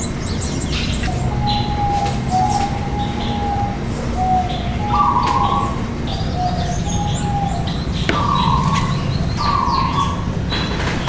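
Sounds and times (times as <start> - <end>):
high bird chirps: 0.0 - 10.6
flat whistled bird notes: 0.0 - 10.7
low background noise: 0.0 - 11.0.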